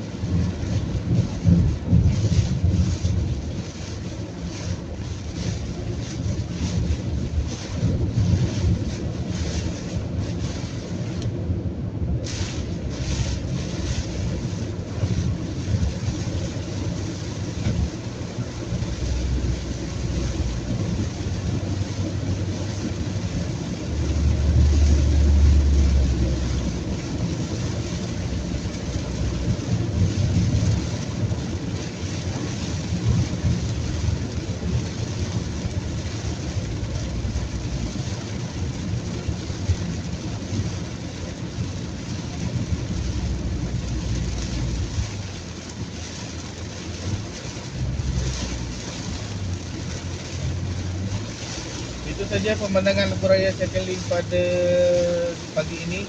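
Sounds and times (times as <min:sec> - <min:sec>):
deep rumble: 0:00.0 - 0:56.0
heavy rain on car: 0:00.0 - 0:56.0
tyre and engine noise: 0:00.0 - 0:56.0.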